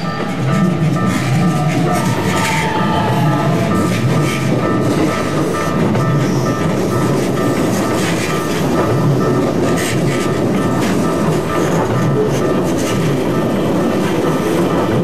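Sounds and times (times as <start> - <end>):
level crossing bell ringing: 0.0 - 12.6
train wheels on rails: 0.0 - 15.0
wheels clacking over rail joints: 0.0 - 15.0.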